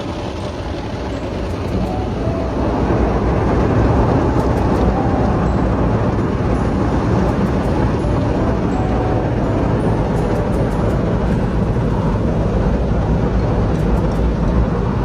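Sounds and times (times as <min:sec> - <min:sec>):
car wash machinery and spray: 0:00.0 - 0:15.0.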